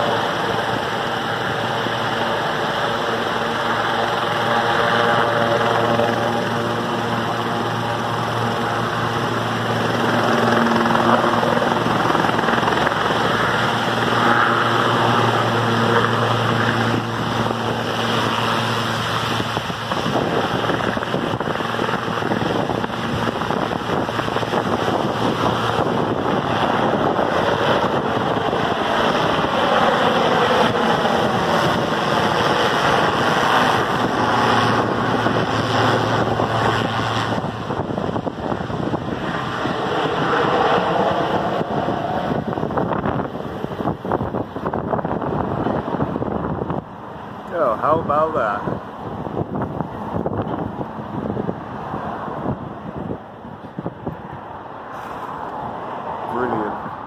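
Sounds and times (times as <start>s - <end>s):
helicopter rotor thrum: 0.0s - 54.5s
helicopter turbine whine: 0.0s - 57.0s.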